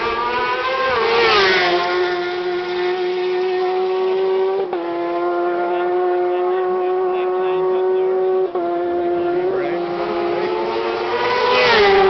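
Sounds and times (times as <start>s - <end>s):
motorcycle engine high whine: 0.0s - 12.0s
motorcycle passing by: 0.0s - 12.0s.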